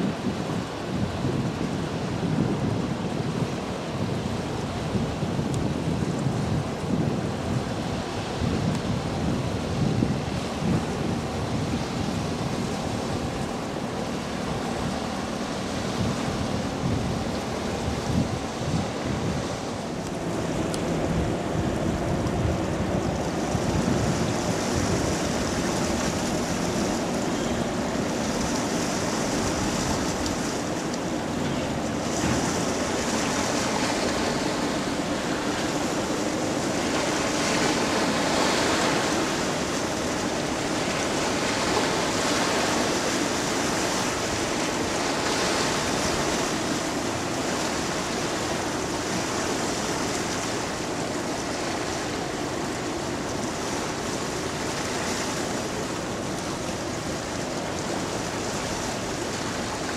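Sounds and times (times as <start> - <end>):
churning water along ship hull: 0.0 - 59.9.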